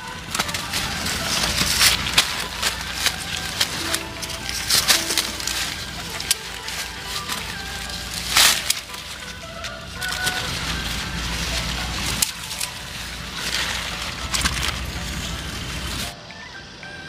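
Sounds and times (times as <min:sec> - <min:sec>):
leaves rustling: 0:00.0 - 0:16.2
scissors snipping: 0:00.2 - 0:15.3.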